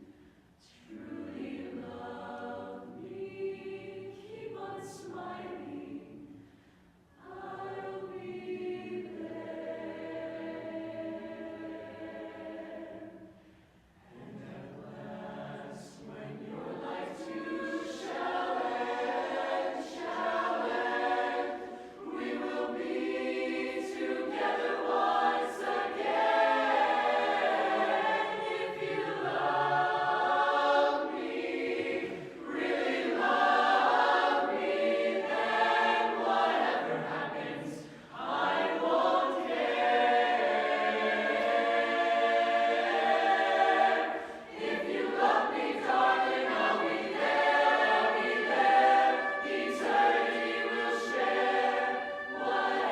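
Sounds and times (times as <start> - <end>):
chorus singing a cappella harmony: 0.0 - 52.9.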